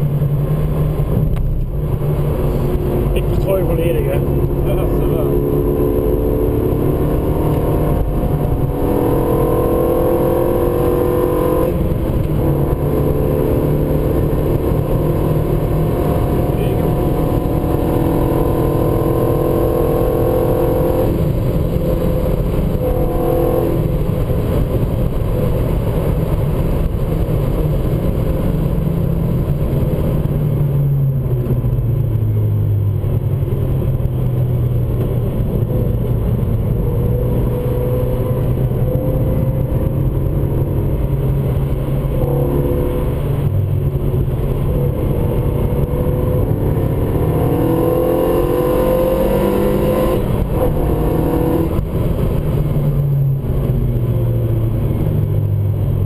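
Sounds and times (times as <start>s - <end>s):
car engine revving under load: 0.0s - 56.0s.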